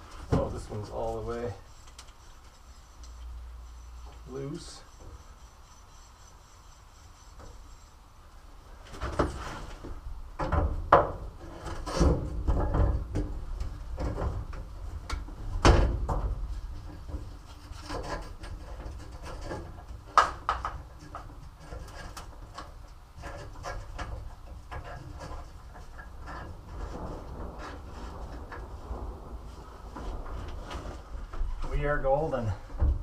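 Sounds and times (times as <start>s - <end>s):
knocks clunks and scraping: 0.0s - 8.0s, 8.7s - 33.0s.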